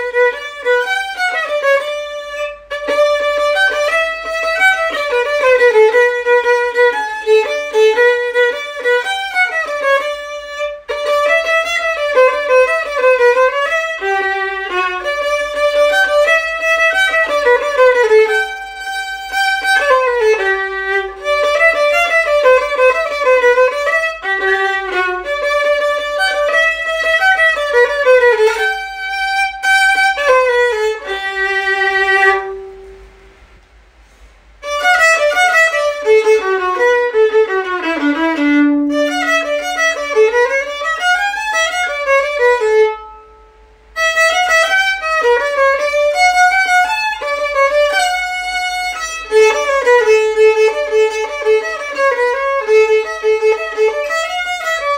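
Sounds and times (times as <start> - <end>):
violin melody: 0.0 - 54.9.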